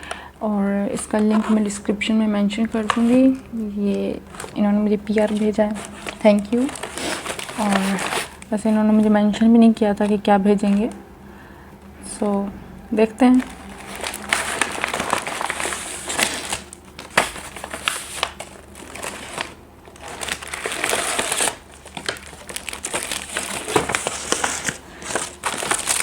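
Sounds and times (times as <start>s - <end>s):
packaging crinkling and rustling: 0.0s - 11.0s, 13.1s - 26.0s.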